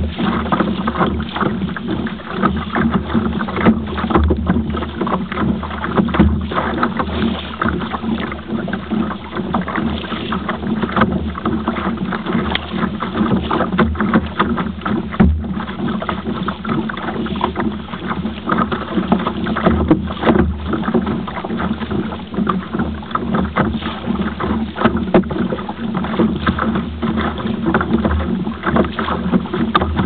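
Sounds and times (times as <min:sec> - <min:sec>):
sea noise: 0:00.0 - 0:30.0
water knocking and splashing on hull: 0:00.0 - 0:30.0
wind: 0:00.0 - 0:30.0.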